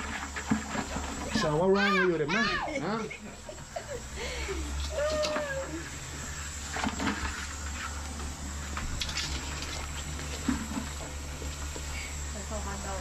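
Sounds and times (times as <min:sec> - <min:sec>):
gas burner rumbling: 0:00.0 - 0:13.0.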